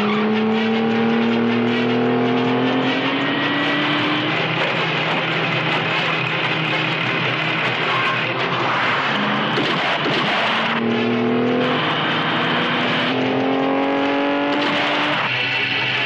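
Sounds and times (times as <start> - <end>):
car engine revving: 0.0 - 16.0
steady rushing noise: 0.0 - 16.0.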